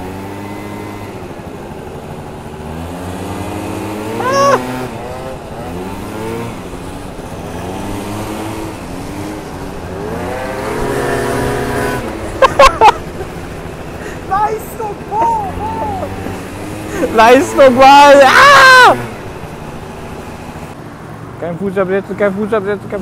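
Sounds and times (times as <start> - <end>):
scooter engines revving: 0.0 - 23.0.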